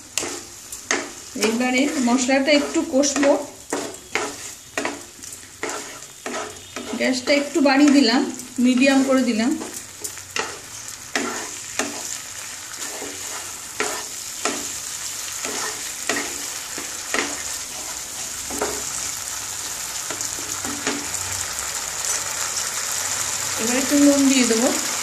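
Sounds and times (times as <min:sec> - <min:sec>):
wooden spatula scraping a wok: 0:00.0 - 0:21.2
sauce sizzling in a wok: 0:00.0 - 0:25.0.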